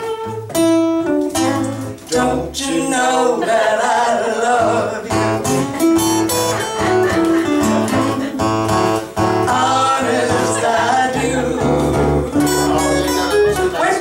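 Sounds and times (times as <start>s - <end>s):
acoustic blues guitar: 0.0s - 14.0s.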